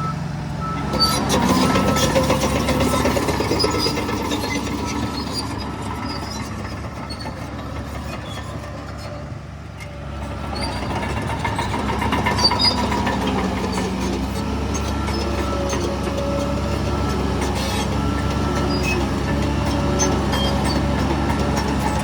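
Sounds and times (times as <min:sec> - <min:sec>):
heavy diesel machinery engine: 0:00.0 - 0:22.0.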